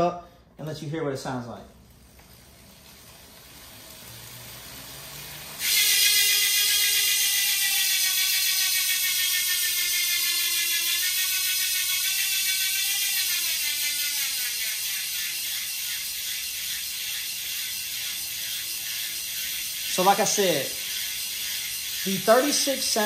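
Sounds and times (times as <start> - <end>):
freehub buzzing: 1.6 - 23.0
bicycle cranks whirring: 1.7 - 23.0.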